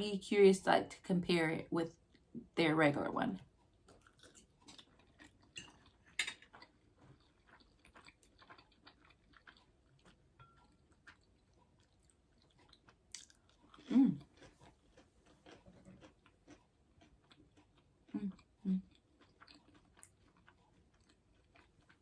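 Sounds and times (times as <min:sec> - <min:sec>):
person chewing: 0:03.6 - 0:22.0.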